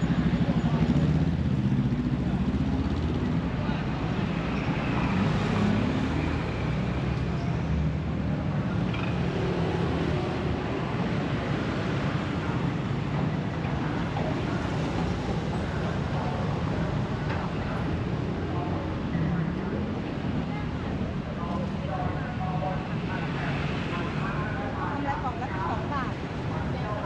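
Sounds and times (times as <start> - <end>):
cars and motorbikes passing: 0.0 - 27.0.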